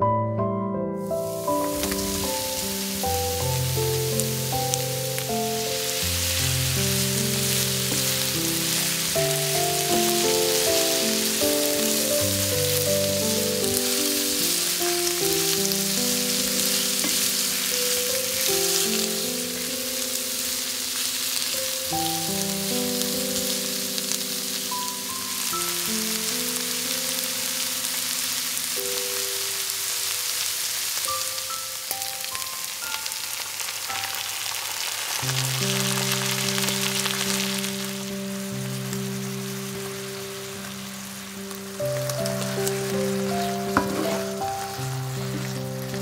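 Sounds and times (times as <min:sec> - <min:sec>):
melodic background music: 0:00.0 - 0:29.3, 0:35.4 - 0:46.0
food sizzling: 0:01.0 - 0:46.0.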